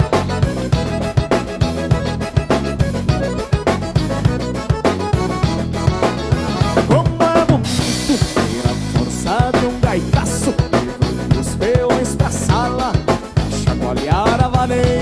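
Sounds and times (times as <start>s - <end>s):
dance band lead melody: 0.0s - 15.0s
drum kit beat: 0.0s - 15.0s.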